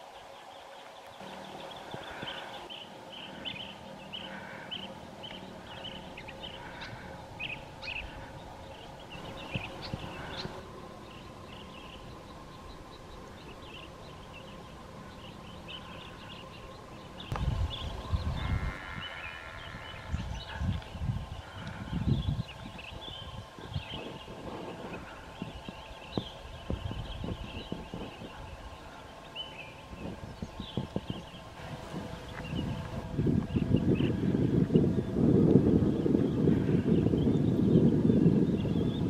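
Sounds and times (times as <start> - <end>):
birds chirping: 0.0 - 39.0
faint background hum: 0.0 - 39.0
low rumbling: 1.2 - 39.0.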